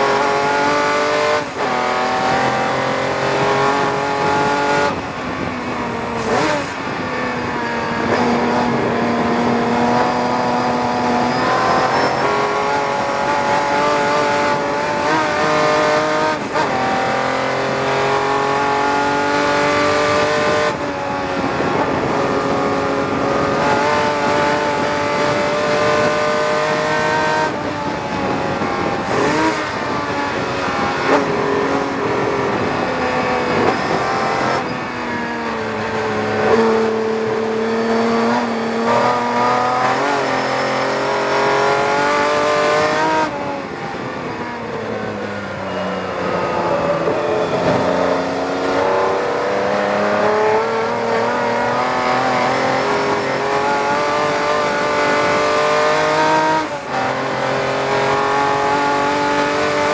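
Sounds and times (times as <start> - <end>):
racing car engine: 0.0 - 59.9.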